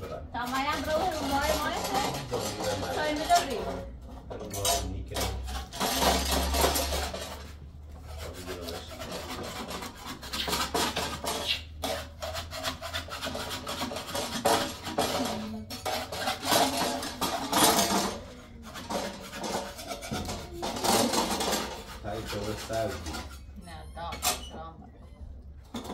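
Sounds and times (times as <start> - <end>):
pots and utensils clinking: 0.0 - 7.6, 8.8 - 24.6, 25.6 - 25.9
kitchenware scraping and rubbing: 0.0 - 25.9.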